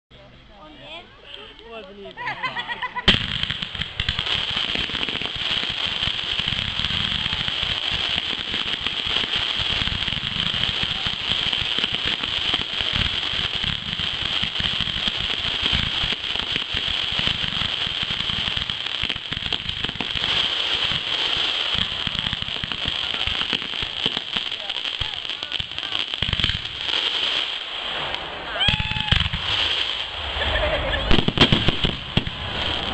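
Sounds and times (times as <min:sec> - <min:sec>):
fireworks crackling and bursting: 0:00.7 - 0:32.9.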